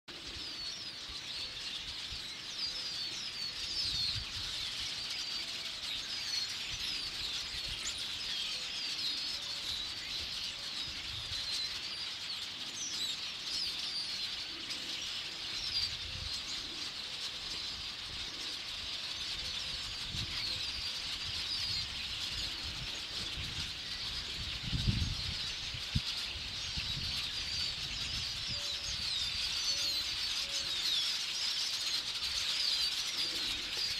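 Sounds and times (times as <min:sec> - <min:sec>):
swallows chirping: 0:00.1 - 0:33.9.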